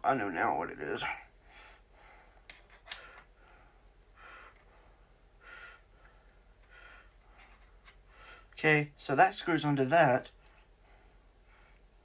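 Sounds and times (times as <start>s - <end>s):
soft breaths: 1.0s - 9.0s, 10.3s - 12.0s.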